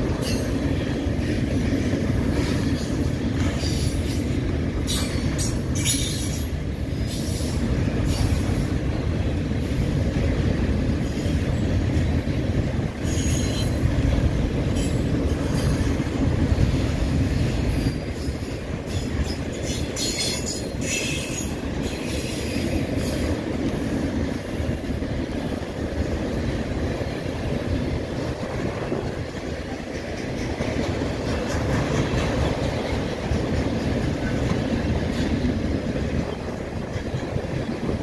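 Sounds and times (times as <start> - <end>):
freight train wheels rumbling on rail: 0.0 - 38.0.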